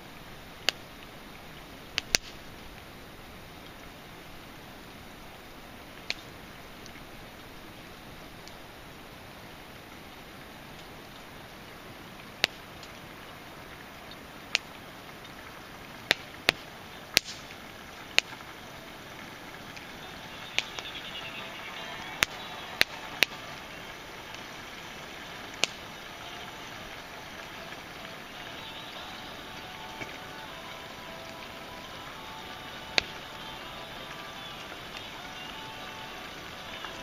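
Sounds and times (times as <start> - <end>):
campfire hissing: 0.0 - 37.0
logs popping and crackling: 0.0 - 37.0.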